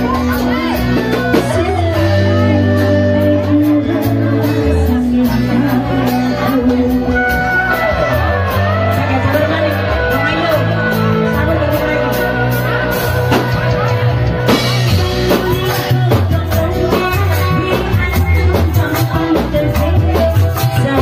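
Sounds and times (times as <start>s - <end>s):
woman singing into microphone: 0.0s - 13.3s, 15.0s - 21.0s
drums beating: 0.0s - 21.0s
live band playing: 0.0s - 21.0s.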